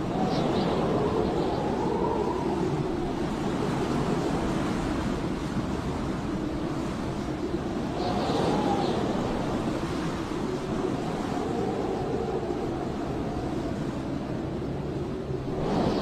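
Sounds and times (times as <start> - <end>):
faint whistling wind tone: 0.0 - 16.0
wind howling: 0.0 - 16.0.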